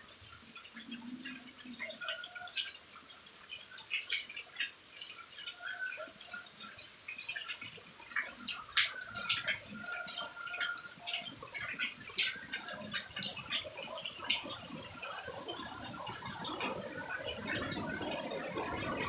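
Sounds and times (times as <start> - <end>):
raindrops tapping hard surfaces: 0.0 - 19.0
trickling water: 0.0 - 19.0.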